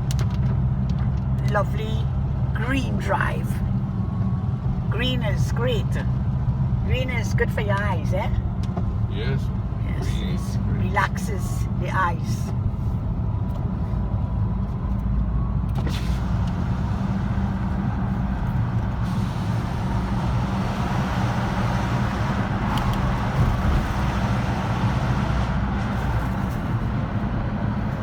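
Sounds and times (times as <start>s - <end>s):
engine and road noise rumble: 0.0s - 28.0s.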